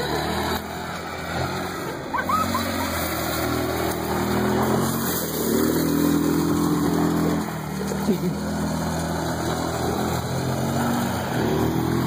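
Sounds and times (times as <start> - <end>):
small atv engine revving: 0.0 - 12.0.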